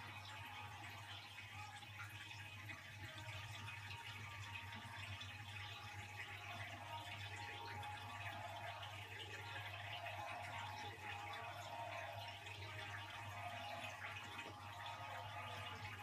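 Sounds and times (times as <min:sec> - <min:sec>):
arena crowd din on television: 0:00.0 - 0:16.0.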